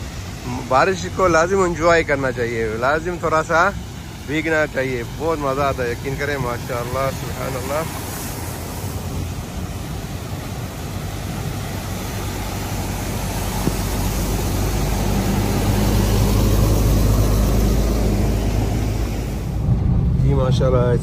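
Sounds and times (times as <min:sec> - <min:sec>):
water spraying from tyres: 0:00.0 - 0:20.2
bus engine: 0:00.0 - 0:21.0.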